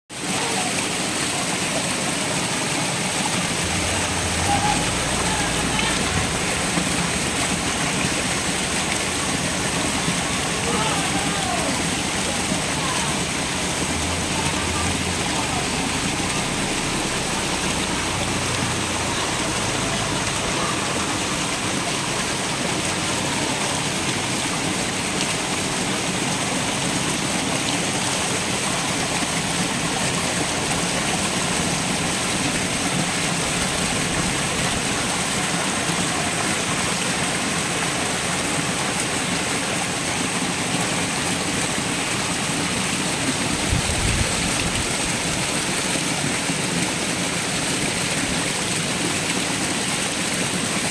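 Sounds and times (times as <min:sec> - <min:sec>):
fish splashing and churning water: 0:00.1 - 0:50.9.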